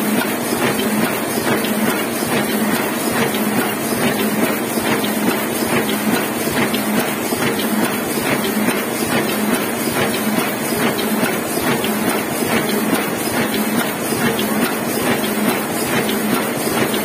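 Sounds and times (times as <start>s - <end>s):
printing press rhythmic clatter: 0.0s - 17.0s.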